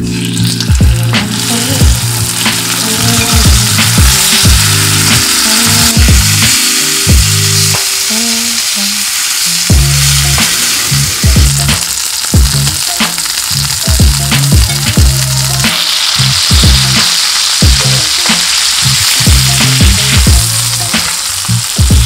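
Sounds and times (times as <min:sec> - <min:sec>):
background music bass beat: 0:00.0 - 0:08.0, 0:09.5 - 0:22.0
steak sizzling in a skillet: 0:00.0 - 0:22.0.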